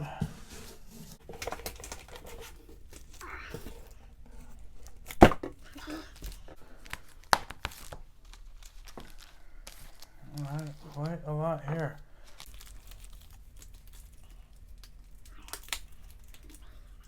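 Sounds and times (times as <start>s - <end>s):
packing materials rustling: 0.0s - 17.0s.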